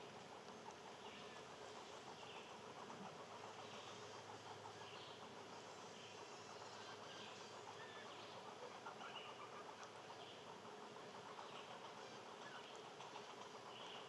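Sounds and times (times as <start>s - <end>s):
faint bird chirps: 0.0s - 14.0s
soft steady hiss: 0.0s - 14.0s.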